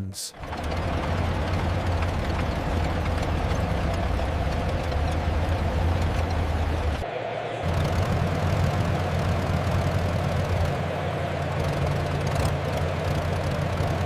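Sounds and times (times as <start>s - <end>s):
engine idling: 0.3s - 14.0s.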